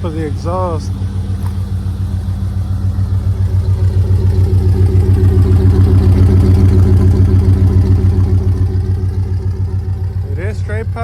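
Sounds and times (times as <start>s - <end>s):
truck exhaust idling rumble: 0.0s - 11.0s.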